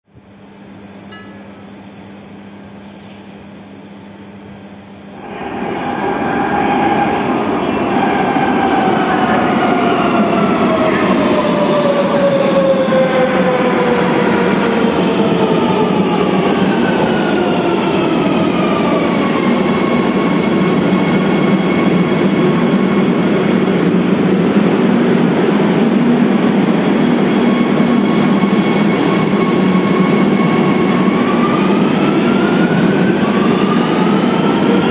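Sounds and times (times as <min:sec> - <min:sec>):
train rumble: 0:00.2 - 0:34.9.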